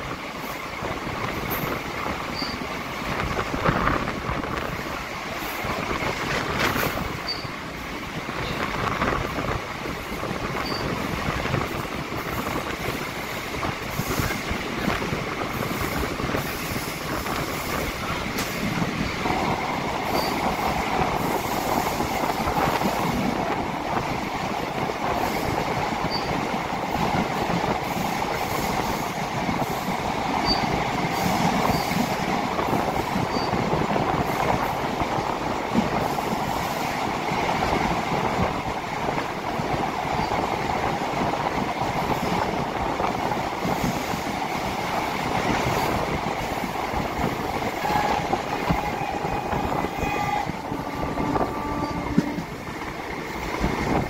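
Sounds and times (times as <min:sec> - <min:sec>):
train rushing through tunnel: 0:00.0 - 0:54.0.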